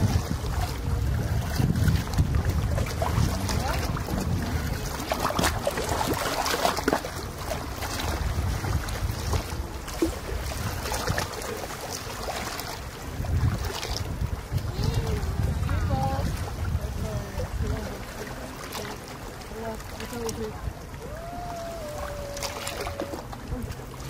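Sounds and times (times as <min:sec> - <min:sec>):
faint sea sounds: 0:00.0 - 0:24.0
wind rumbling on microphone: 0:00.0 - 0:24.0.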